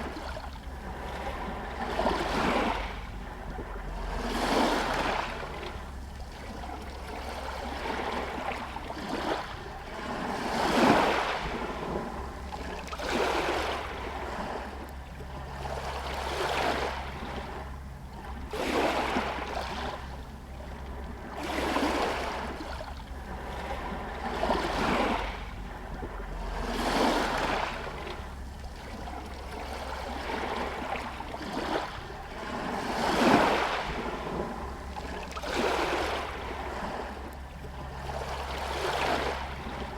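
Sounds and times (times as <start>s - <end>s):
steady low rumble: 0.0s - 39.9s
waves lapping against stones: 0.0s - 39.9s.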